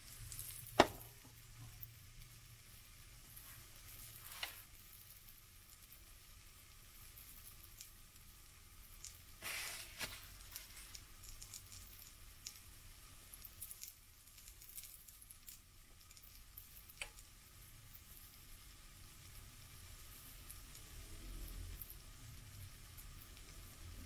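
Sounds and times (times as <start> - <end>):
pancake sizzling in a frying pan: 0.0 - 24.0.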